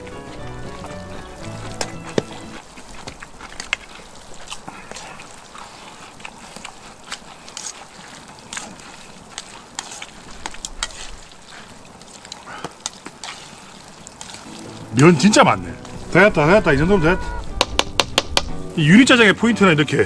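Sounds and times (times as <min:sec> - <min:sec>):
noodles stirred in sauce: 0:00.2 - 0:16.7.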